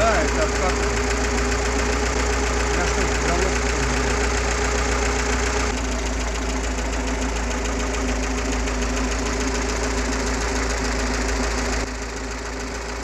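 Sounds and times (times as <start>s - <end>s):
petrol engine idling: 0.0s - 13.0s.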